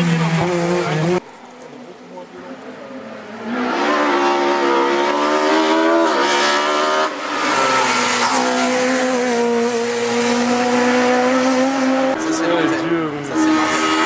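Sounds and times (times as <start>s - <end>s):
rally car engine revving high: 0.0s - 1.2s, 3.2s - 14.0s.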